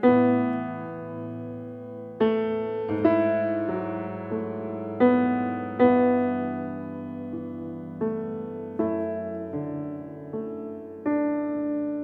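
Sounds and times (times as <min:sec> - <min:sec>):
slow quiet piano chords: 0:00.0 - 0:12.0.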